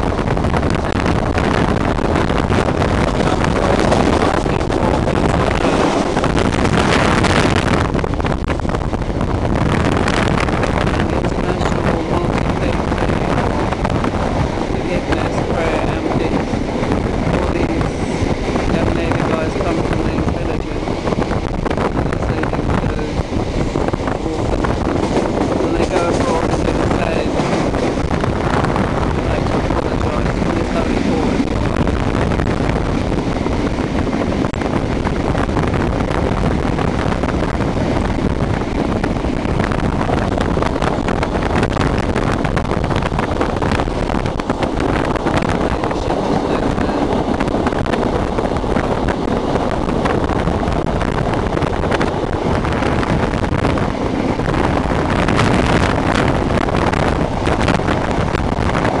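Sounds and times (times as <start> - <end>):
train wheels rumbling on rails: 0.0 - 59.0
wind noise on microphone: 0.0 - 59.0.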